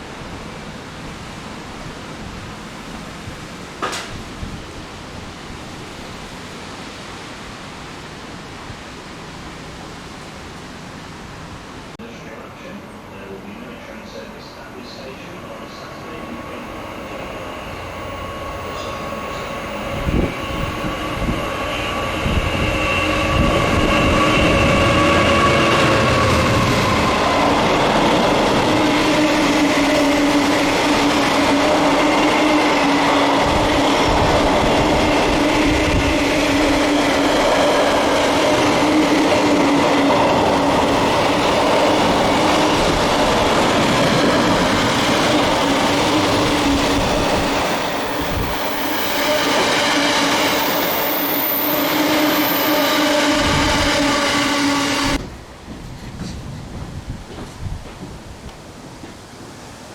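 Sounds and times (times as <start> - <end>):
train humming tone: 0.0 - 59.5
diesel train wheels rumbling: 11.6 - 59.8.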